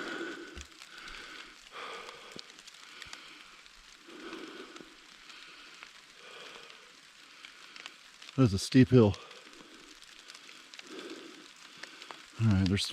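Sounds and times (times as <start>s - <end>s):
steady rain falling: 0.0s - 12.9s.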